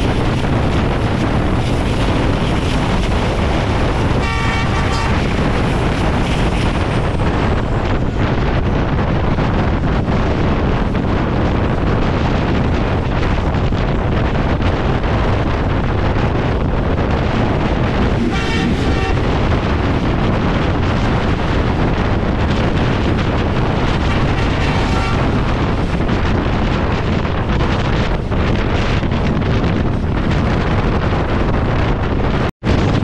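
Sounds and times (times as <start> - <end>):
train running at speed: 0.0 - 33.0
wind buffeting microphone: 0.0 - 33.0.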